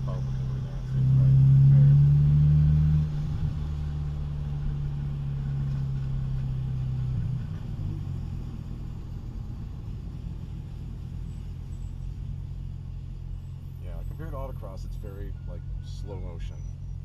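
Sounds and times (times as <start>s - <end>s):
car exhaust drone: 0.0s - 17.0s.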